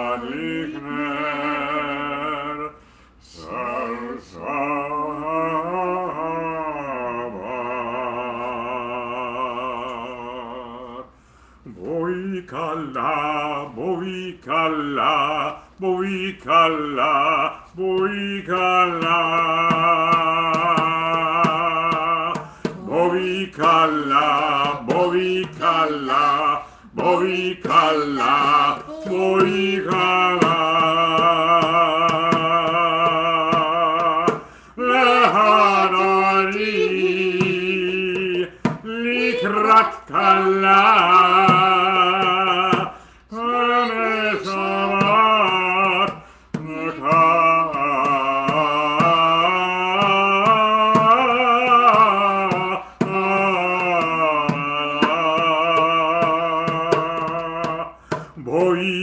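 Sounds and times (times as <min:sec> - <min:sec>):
man and woman singing: 0:00.0 - 0:59.0.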